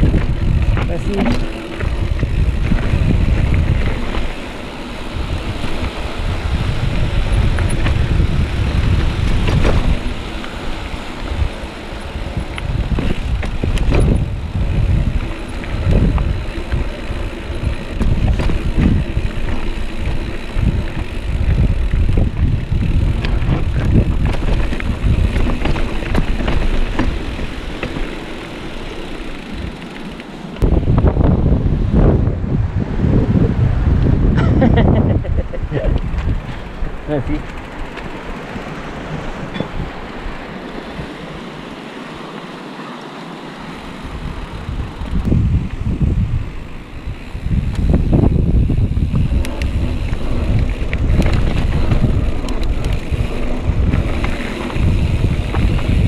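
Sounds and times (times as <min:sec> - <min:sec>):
wind buffeting microphone: 0:00.0 - 0:42.2, 0:43.8 - 0:56.0
bike rattling: 0:00.0 - 0:56.0.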